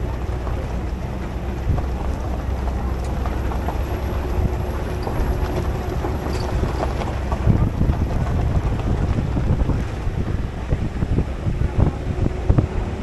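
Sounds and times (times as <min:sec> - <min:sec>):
vehicle engine and road rumble: 0:00.0 - 0:13.0
wind buffeting microphone: 0:00.0 - 0:13.0.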